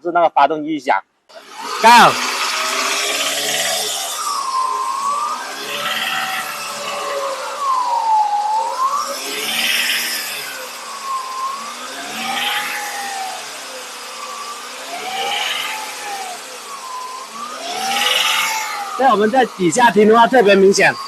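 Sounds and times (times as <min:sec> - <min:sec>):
car engine revving: 0:01.3 - 0:21.0.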